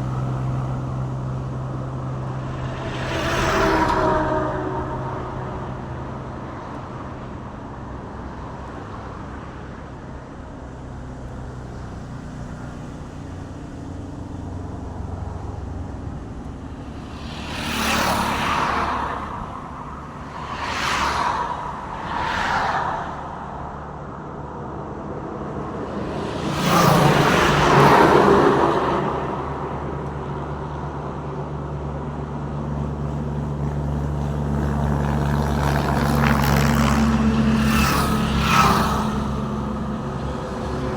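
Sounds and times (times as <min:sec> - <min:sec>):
low engine hum: 0:00.0 - 0:40.9
vehicles rushing past: 0:00.0 - 0:40.9.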